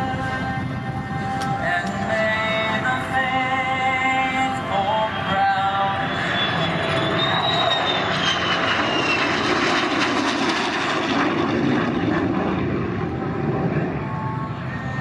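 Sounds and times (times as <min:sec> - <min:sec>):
airplane engine flying past: 0:00.0 - 0:15.0
high whine falling in pitch: 0:00.0 - 0:15.0.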